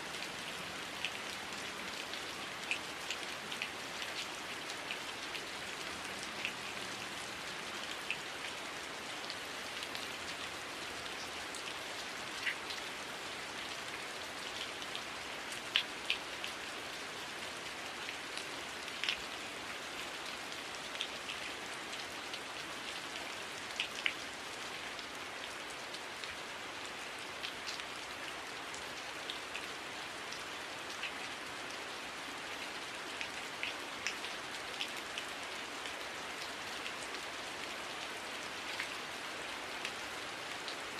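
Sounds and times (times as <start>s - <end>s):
raindrops ticking on surfaces: 0.0s - 40.9s.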